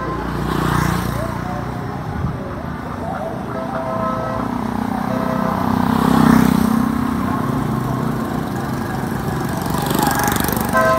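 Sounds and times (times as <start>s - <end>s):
motorbikes passing: 0.0s - 10.9s
traffic hum: 0.0s - 10.9s.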